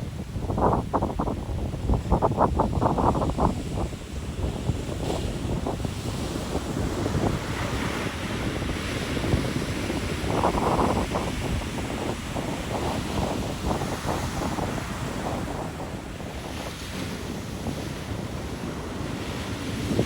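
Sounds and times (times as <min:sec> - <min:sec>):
ocean surf washing: 0:00.0 - 0:20.0
wind buffeting microphone: 0:00.0 - 0:20.0.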